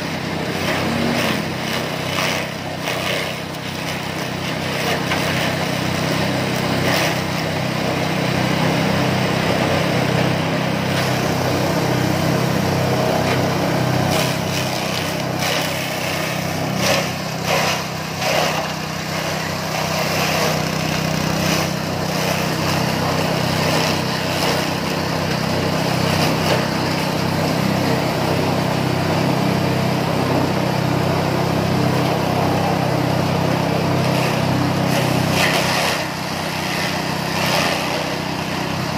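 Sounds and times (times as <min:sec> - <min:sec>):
blades cutting grass stalks: 0:00.0 - 0:28.2, 0:31.9 - 0:38.9
small engine running: 0:00.0 - 0:38.9.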